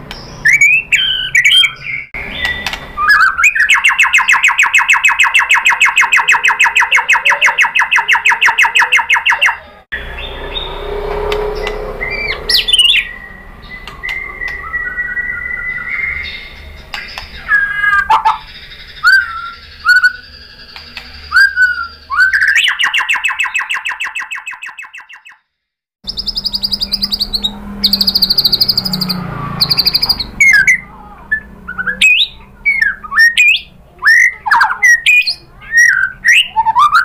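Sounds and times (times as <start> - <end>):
songbird whistling and rattling: 0.1 - 25.4, 26.1 - 30.8, 31.4 - 37.0.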